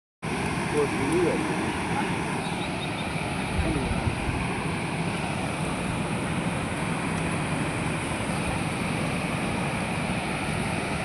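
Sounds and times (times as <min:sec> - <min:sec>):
water rushing through a dam: 0:00.2 - 0:11.0.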